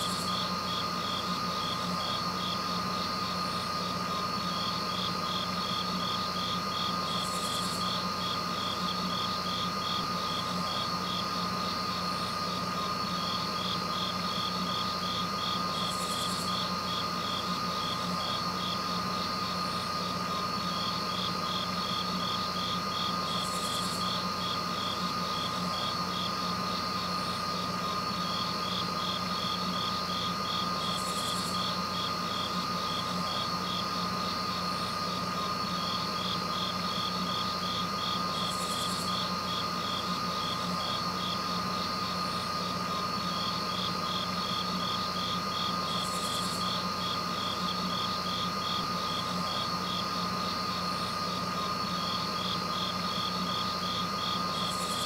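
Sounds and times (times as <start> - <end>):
constant high tone: 0.0 - 55.0
insects chirping: 0.0 - 55.0.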